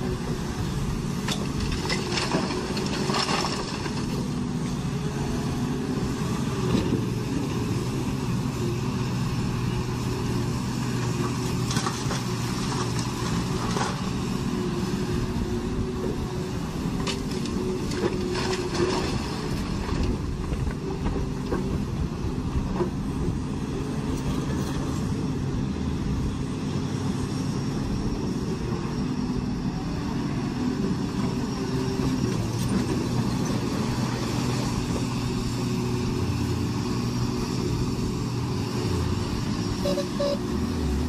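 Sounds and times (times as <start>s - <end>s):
heavy diesel engines running: 0.0s - 41.0s.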